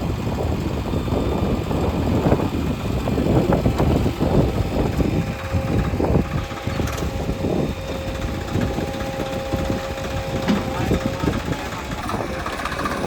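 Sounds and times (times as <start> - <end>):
diesel engine rumbling: 0.0 - 13.0
thin steady whine: 0.1 - 13.0.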